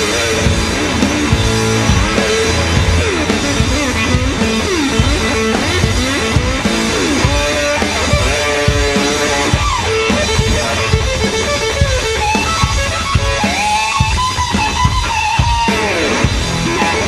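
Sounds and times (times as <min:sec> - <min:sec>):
drum kit steady beat: 0:00.0 - 0:17.0
electric guitar bending notes: 0:00.0 - 0:17.0.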